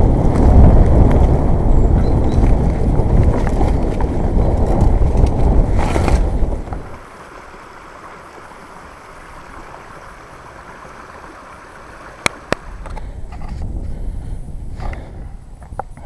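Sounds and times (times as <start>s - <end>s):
wind and tyre rumble: 0.0s - 16.0s.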